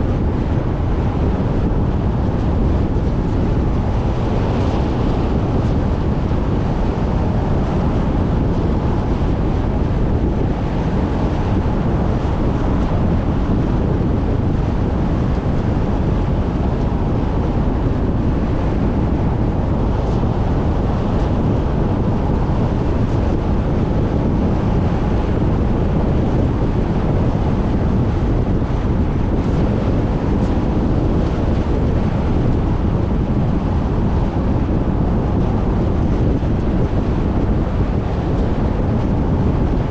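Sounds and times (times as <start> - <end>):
car road noise rumble: 0.0 - 39.9
wind on microphone: 0.0 - 39.9.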